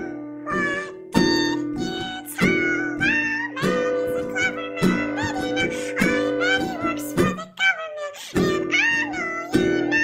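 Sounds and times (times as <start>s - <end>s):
plucked guitar-like music: 0.0s - 10.0s.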